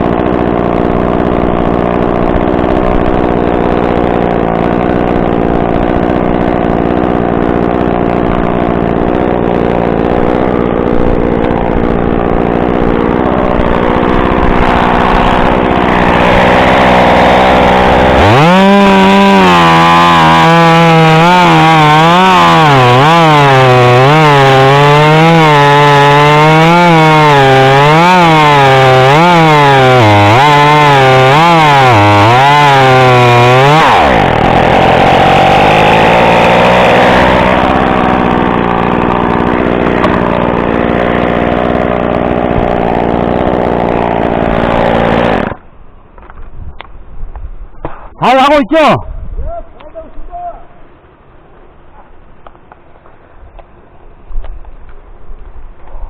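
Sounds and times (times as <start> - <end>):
chainsaw idling and revving: 0.0 - 45.7.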